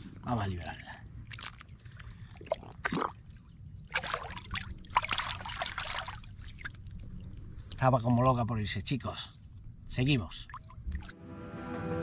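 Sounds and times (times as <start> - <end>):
water splashing and trickling: 0.1 - 11.2.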